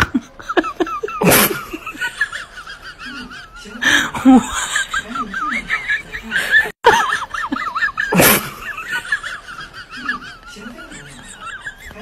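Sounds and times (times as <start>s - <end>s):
high-pitched wavering laughter: 0.0s - 12.0s.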